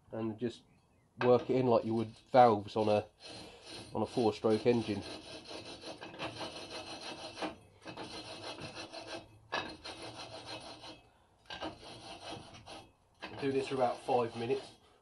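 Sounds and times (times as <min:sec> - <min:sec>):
grinding paste rasping between metal: 0:01.2 - 0:14.9.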